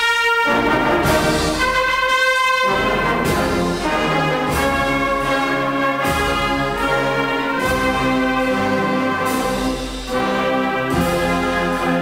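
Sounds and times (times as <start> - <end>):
brass band sustained chords: 0.0 - 12.0.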